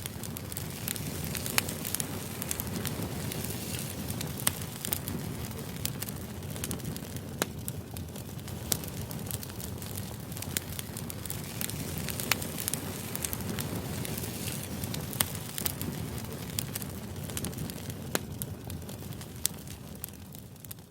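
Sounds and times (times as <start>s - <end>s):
logs crackling and popping: 0.0s - 20.9s
rush of flame: 0.0s - 20.9s.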